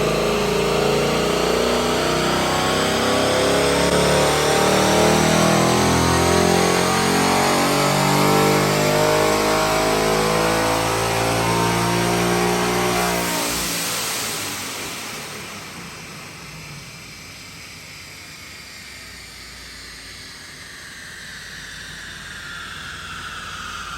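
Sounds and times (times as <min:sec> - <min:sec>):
engine running at high revs: 0:00.0 - 0:23.9.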